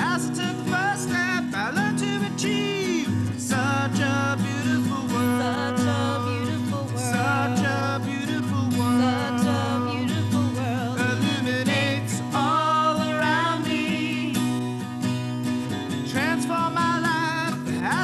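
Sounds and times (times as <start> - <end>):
person singing: 0.0 - 14.8, 16.1 - 18.0
acoustic guitar: 0.0 - 18.0.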